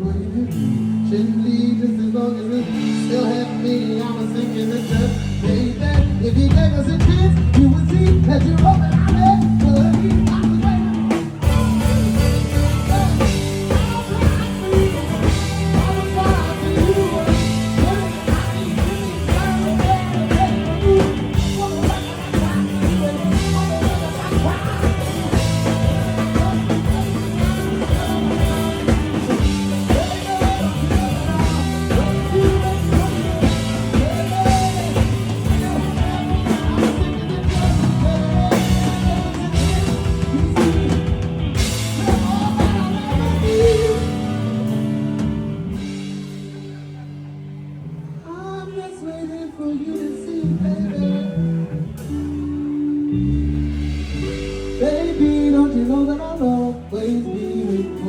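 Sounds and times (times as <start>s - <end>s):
live rock band playing: 0.0s - 58.0s
drum kit beat: 2.7s - 47.2s, 52.0s - 58.0s.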